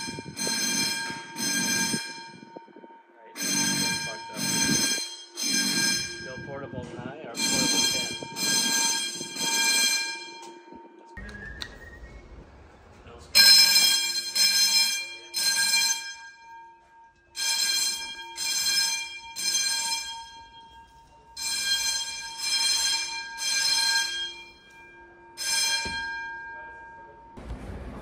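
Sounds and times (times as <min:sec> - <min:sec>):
fire alarm bell ringing: 0:00.0 - 0:11.2, 0:13.4 - 0:27.4.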